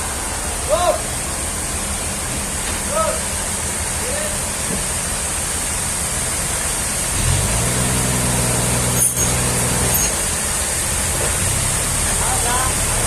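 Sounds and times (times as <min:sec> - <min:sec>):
constant hiss: 0:00.0 - 0:13.0
engine running: 0:00.0 - 0:13.0.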